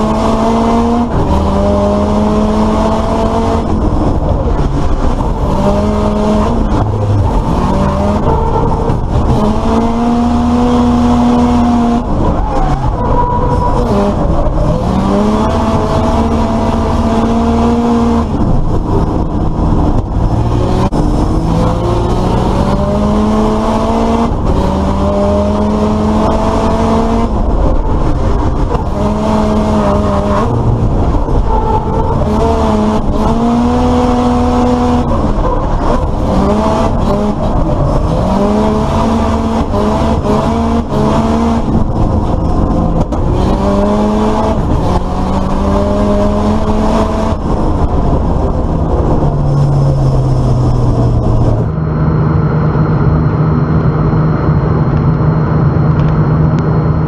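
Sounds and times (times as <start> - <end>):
car engines revving hard: 0.0 - 57.0.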